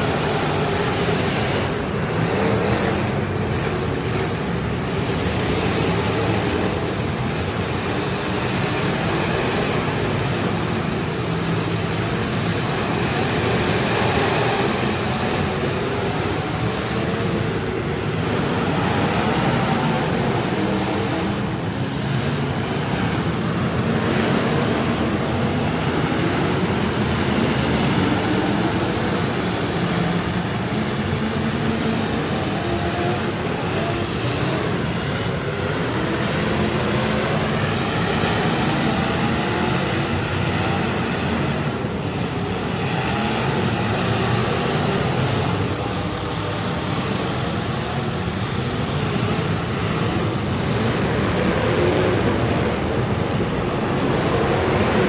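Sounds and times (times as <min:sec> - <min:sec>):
car engines running together: 0:00.0 - 0:55.0.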